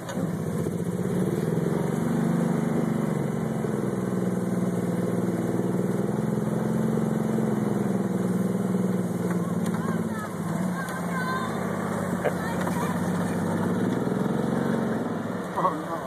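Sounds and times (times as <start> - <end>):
golf cart engine running: 0.0 - 16.0.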